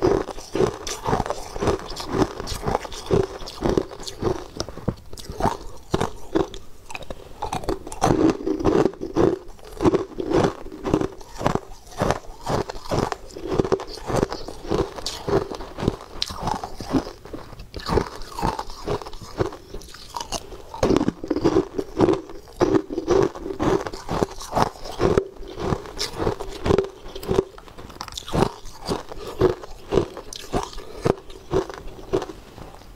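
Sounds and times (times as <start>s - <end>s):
chewing: 0.0s - 32.9s
ice cubes crunching: 0.0s - 32.9s.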